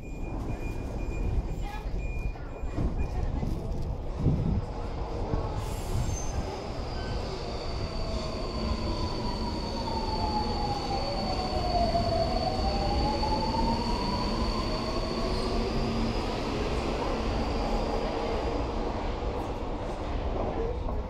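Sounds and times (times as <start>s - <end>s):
metro train rumble: 0.0s - 21.0s.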